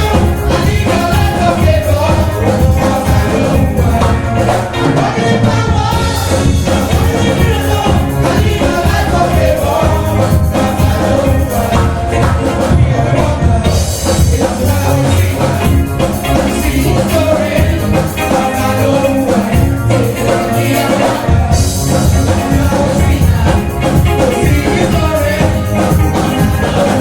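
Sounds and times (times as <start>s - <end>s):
gospel group singing: 0.0s - 27.0s
live band playing: 0.0s - 27.0s.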